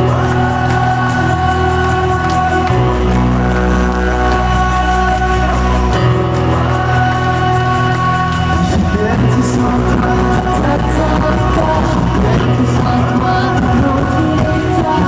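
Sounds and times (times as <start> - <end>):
live pop-rock band playing: 0.0 - 15.0.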